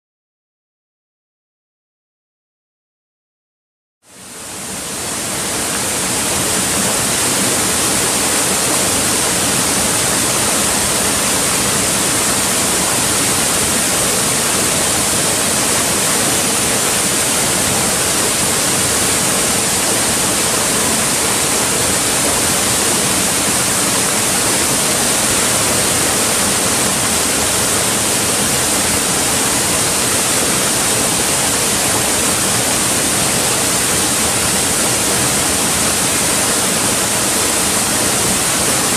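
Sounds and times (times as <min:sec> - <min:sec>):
stream rushing over rocks: 0:04.4 - 0:38.9.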